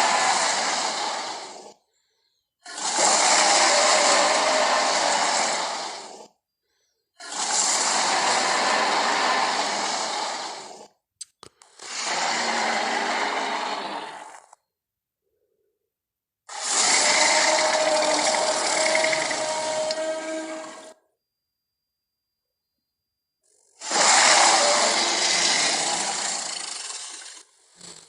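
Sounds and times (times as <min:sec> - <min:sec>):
rough breathy creature call: 0:00.0 - 0:11.0, 0:11.7 - 0:14.6, 0:16.5 - 0:21.0, 0:23.7 - 0:28.0.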